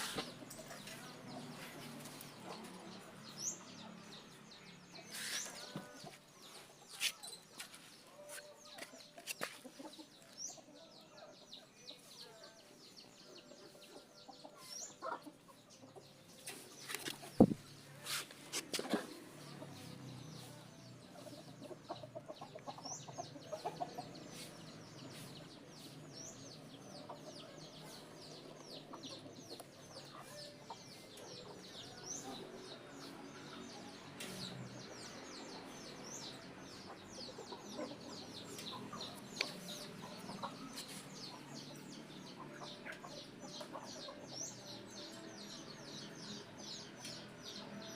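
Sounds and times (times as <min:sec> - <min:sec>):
chickens clucking: 0:00.0 - 0:47.9
small birds chirping: 0:00.0 - 0:47.9.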